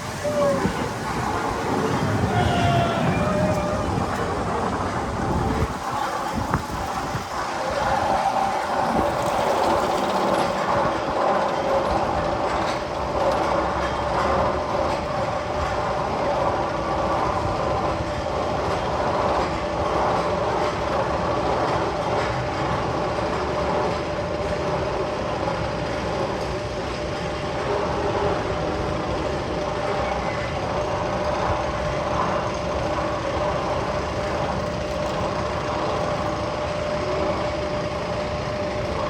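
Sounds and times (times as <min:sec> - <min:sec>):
rail-like rumbling with hum: 0:00.0 - 0:39.0.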